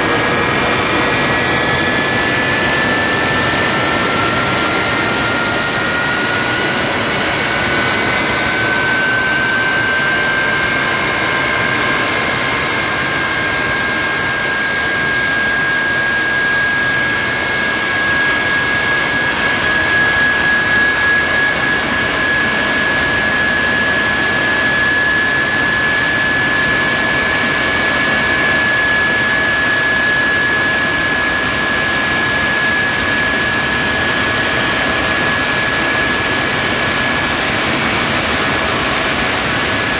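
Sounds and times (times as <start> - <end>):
jet engine roaring with whine: 0.0 - 39.9.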